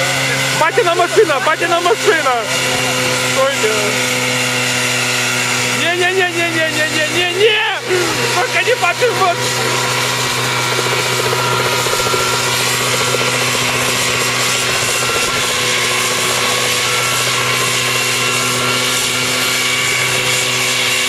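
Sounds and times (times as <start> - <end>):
helicopter engine running: 0.0 - 21.0
helicopter rotor spinning: 0.0 - 21.0.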